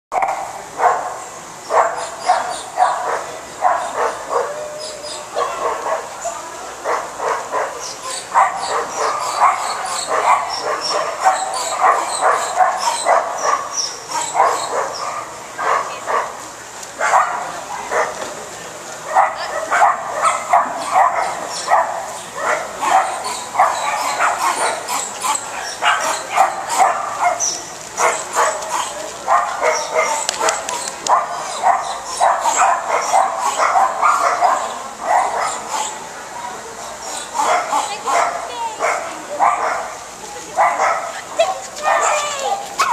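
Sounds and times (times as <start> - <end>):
dogs barking and yipping: 0.1 - 16.4, 17.0 - 18.2, 19.0 - 42.9.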